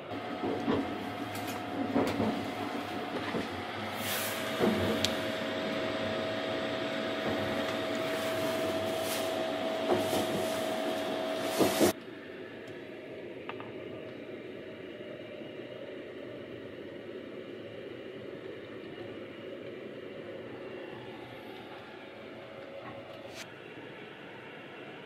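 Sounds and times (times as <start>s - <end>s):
steady hum: 0.0s - 25.0s
train rumble and hiss: 0.0s - 25.0s.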